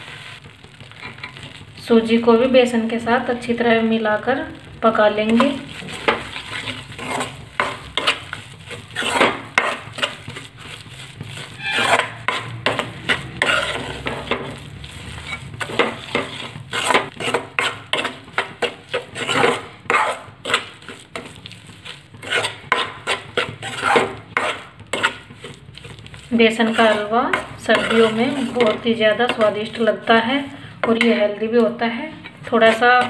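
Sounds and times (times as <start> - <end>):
metal spatula scraping a pan: 0.0 - 1.6, 5.2 - 31.4, 32.1 - 33.0
ghee sizzling: 0.0 - 33.0.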